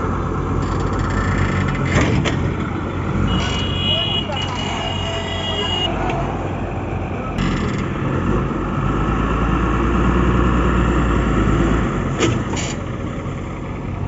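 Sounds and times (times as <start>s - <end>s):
heavy diesel engine revving: 0.0s - 14.0s.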